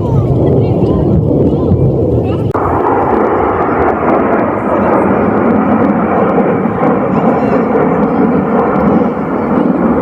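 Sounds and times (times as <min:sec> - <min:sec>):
distant jet engines roaring: 0:00.0 - 0:10.0.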